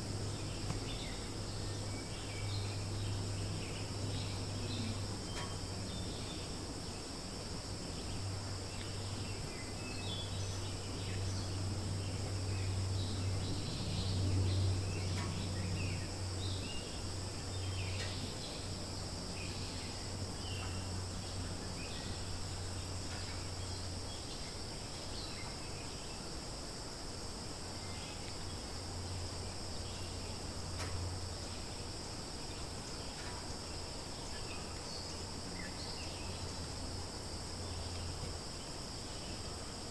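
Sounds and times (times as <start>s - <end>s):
insect chorus: 0.0s - 39.9s
low steady hum: 0.0s - 39.9s.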